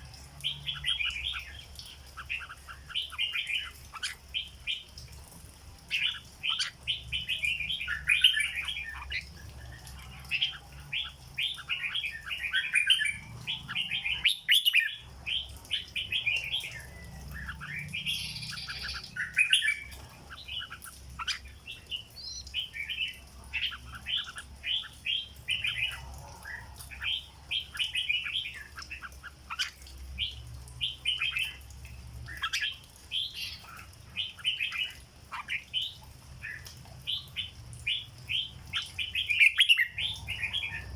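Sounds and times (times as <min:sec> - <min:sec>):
bird chirping song: 0:00.0 - 0:40.9.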